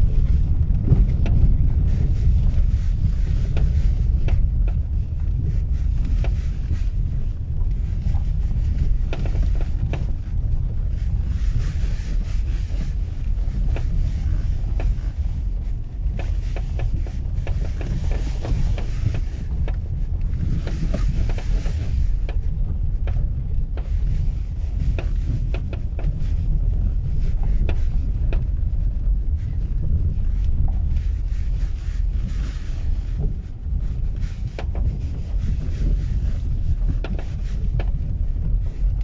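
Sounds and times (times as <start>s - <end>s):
car and road rumble: 0.0s - 39.0s.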